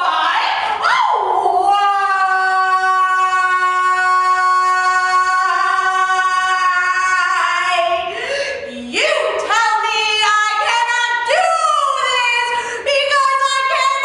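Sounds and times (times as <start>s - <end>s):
woman singing: 0.8s - 14.0s.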